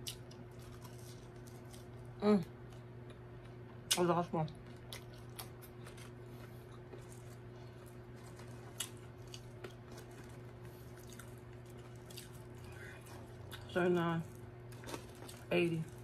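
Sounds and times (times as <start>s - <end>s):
person chewing softly: 0.0s - 16.0s
steady low hum: 0.0s - 16.0s.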